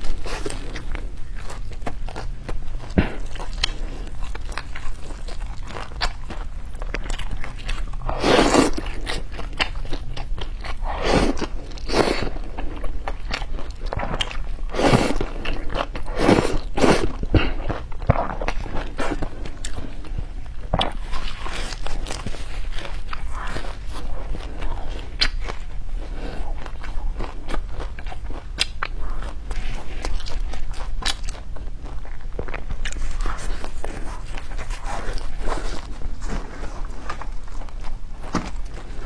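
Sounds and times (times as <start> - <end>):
person chewing and crunching: 0.0 - 39.0.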